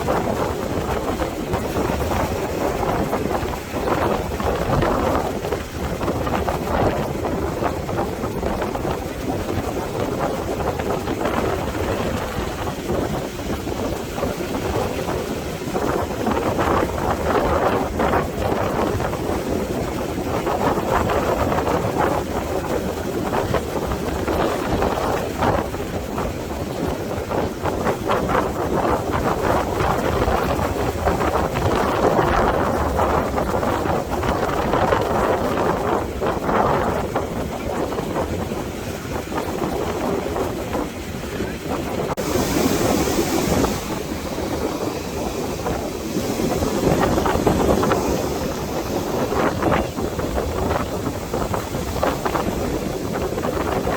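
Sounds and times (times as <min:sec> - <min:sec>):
ocean surf: 0:00.0 - 0:53.9
wind buffeting microphone: 0:00.0 - 0:53.9.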